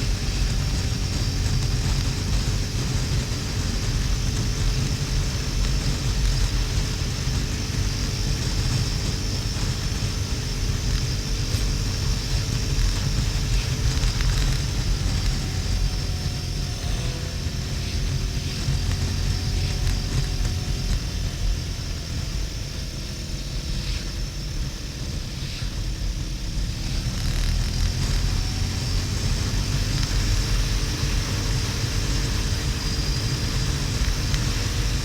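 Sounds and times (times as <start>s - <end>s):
motorcycle engine running: 0.0s - 35.0s
wind noise on microphone: 0.0s - 35.0s.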